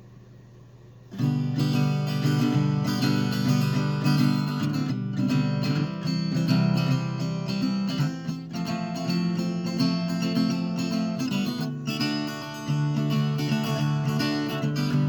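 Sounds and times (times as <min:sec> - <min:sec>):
guitar strumming chords: 0:01.1 - 0:15.0.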